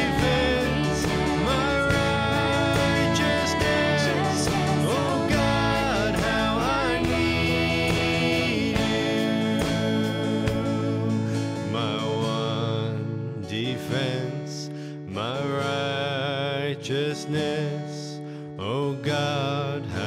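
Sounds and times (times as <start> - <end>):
person singing melody: 0.0 - 17.7
acoustic guitar strumming: 0.0 - 20.0.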